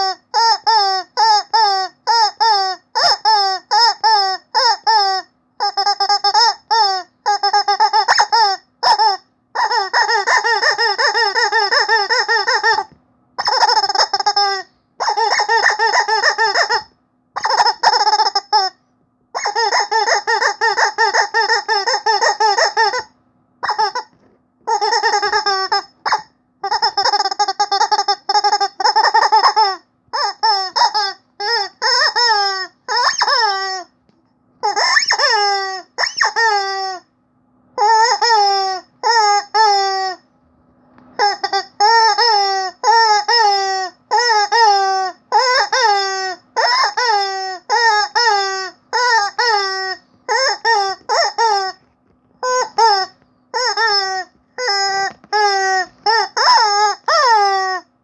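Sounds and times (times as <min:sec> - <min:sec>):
rubber chicken toy squeaking: 0:00.0 - 0:33.9, 0:34.6 - 0:37.1, 0:37.8 - 0:40.3, 0:41.1 - 0:57.9.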